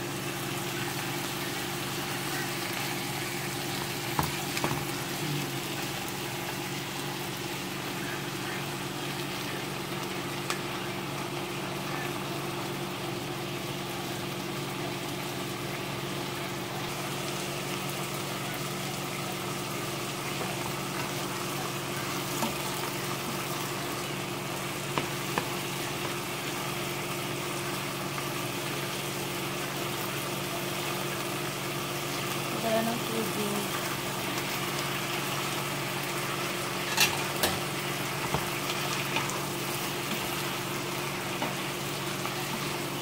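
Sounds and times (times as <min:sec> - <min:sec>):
food simmering in a pan: 0:00.0 - 0:43.0.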